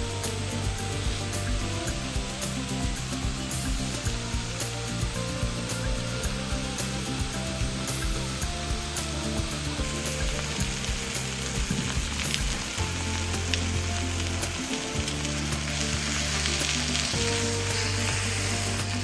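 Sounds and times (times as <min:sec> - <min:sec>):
background music: 0:00.0 - 0:19.0
food sizzling: 0:00.0 - 0:19.0.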